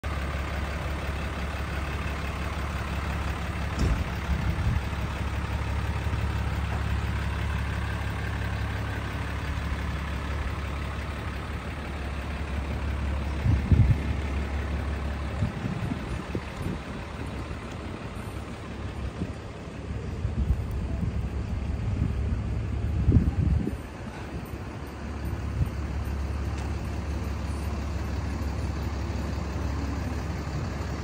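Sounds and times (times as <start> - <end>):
diesel truck idling: 0.0 - 31.0.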